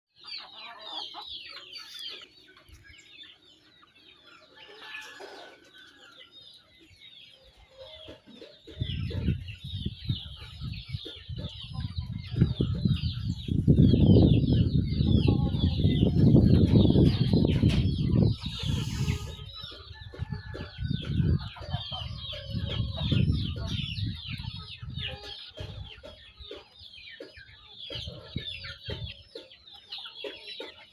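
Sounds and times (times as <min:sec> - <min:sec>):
birds chirping: 0:00.1 - 0:30.9.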